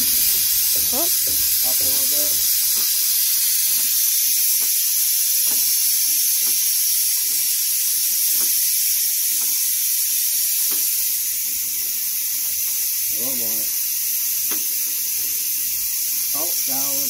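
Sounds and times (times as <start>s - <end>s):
compressed air hissing into tire: 0.0s - 17.0s.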